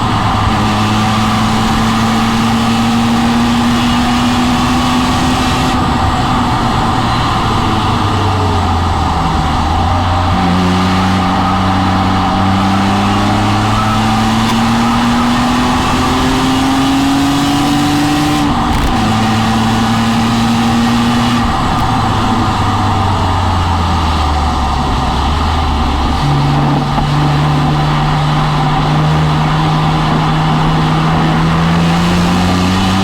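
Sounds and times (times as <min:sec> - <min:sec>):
car engine from inside: 0:00.0 - 0:33.0
road and wind noise: 0:00.0 - 0:33.0.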